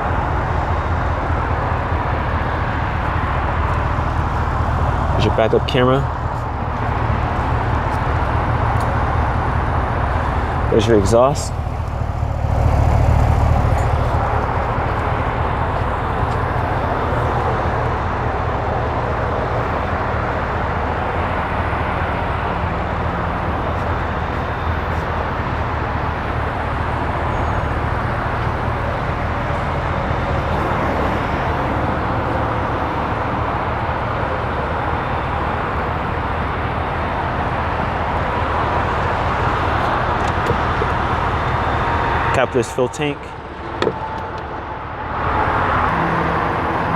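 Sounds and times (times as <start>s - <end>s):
car engine idling: 0.0s - 45.5s.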